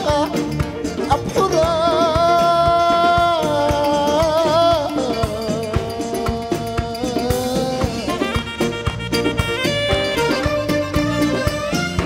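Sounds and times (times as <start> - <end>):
band playing: 0.0 - 12.0
steady drum beat: 0.0 - 12.0.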